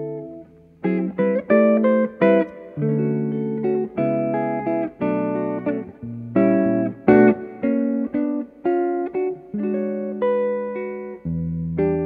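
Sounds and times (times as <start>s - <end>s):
jazz guitar chords ringing: 0.0s - 12.0s.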